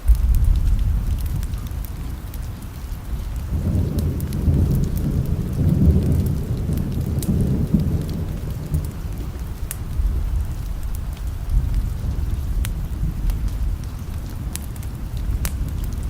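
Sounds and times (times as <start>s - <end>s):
distant thunder rumble: 0.0s - 16.0s
steady rain: 0.0s - 16.0s.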